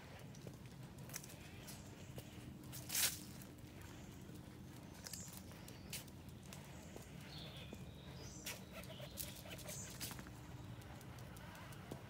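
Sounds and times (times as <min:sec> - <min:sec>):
dog claws clicking on paving: 0:00.1 - 0:12.0.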